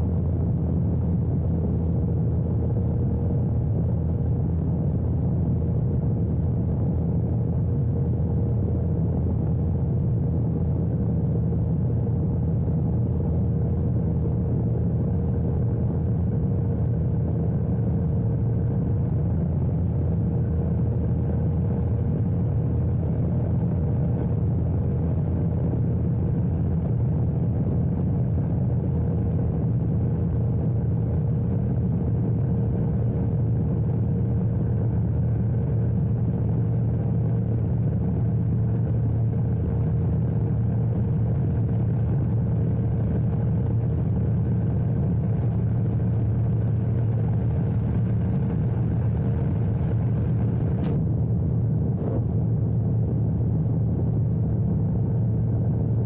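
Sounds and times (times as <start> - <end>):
aircraft engine and propeller drone: 0.0 - 56.0
thin steady whine: 0.0 - 56.0.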